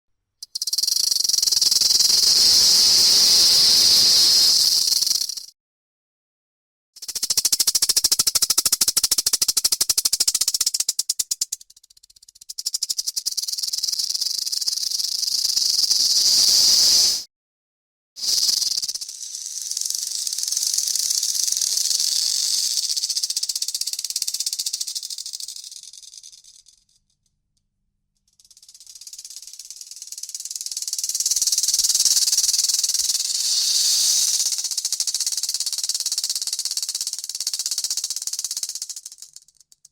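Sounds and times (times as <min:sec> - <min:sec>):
rattlesnake rattle buzzing: 0:00.4 - 0:05.5, 0:07.0 - 0:17.3, 0:18.2 - 0:26.6, 0:28.4 - 0:39.9.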